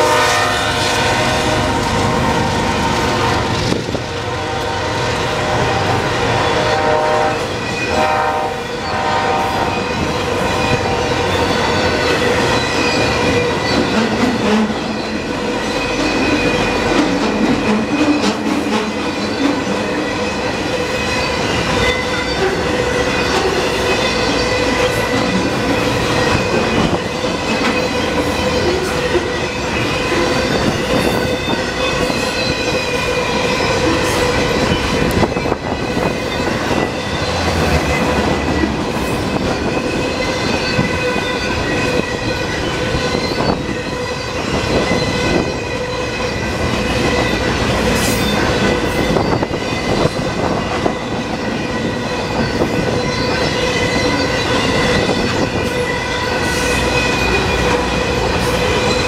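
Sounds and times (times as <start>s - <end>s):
high wheel squeal: 5.8s - 59.0s.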